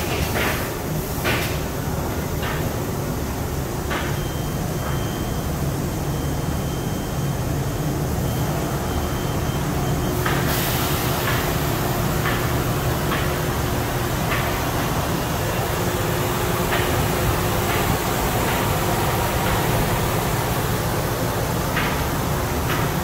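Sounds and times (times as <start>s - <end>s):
factory machine humming: 0.0s - 23.0s.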